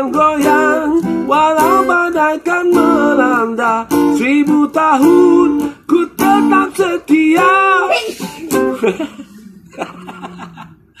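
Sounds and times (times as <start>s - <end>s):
man singing: 0.0s - 9.0s
strummed acoustic guitar: 0.0s - 9.2s.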